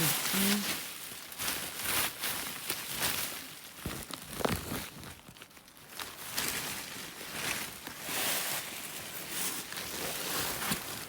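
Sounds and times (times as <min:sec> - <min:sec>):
rustling and handling noises: 0:00.0 - 0:11.0.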